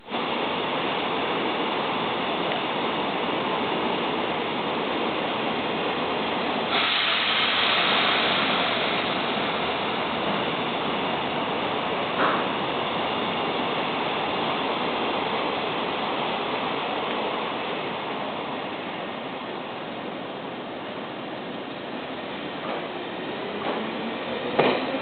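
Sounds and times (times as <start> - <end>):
electric train hissing: 0.0 - 20.4.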